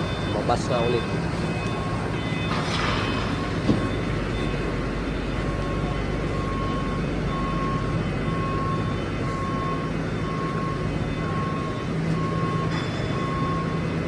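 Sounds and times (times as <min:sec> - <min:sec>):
electronic warning beep: 0:00.0 - 0:14.0
engine rumble: 0:00.0 - 0:14.0.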